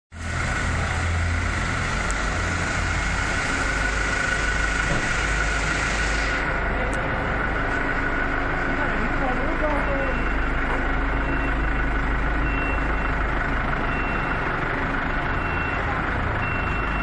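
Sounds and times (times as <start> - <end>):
fire truck engines idling: 0.1 - 17.0.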